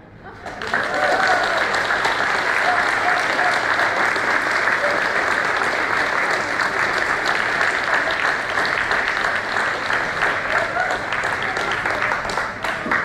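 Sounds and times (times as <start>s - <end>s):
crowd clapping: 0.3s - 13.0s.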